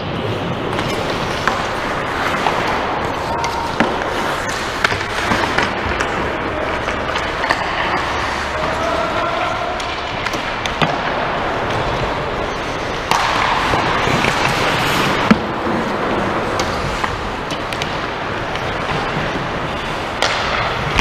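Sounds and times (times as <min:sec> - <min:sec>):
hockey sticks and puck clacking: 0:00.0 - 0:21.0
skate blades scraping ice: 0:00.2 - 0:21.0.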